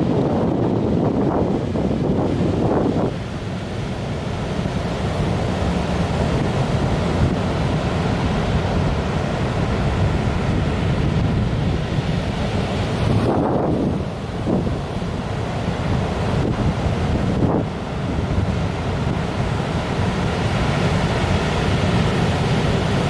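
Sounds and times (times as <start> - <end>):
heavy surf breaking: 0.0 - 23.0
wind buffeting microphone: 0.0 - 23.0.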